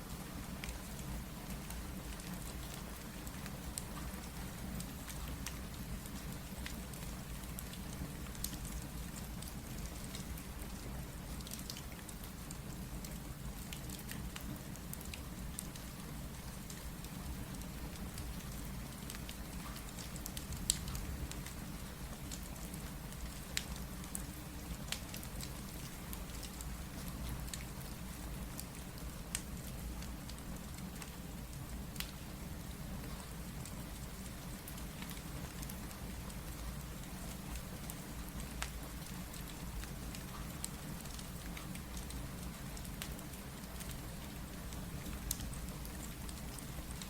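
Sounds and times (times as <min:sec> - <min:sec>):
steady rain: 0:00.0 - 0:47.0
wood fire crackling: 0:00.6 - 0:47.0.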